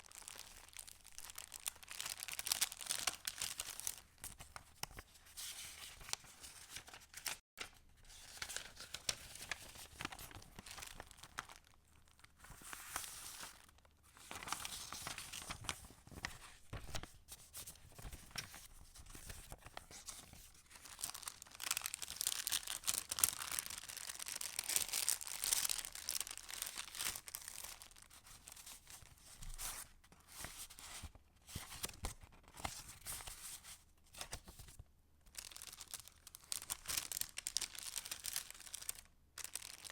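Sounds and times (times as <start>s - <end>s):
paper pages rustling and crinkling: 0.3s - 34.8s, 35.4s - 39.9s.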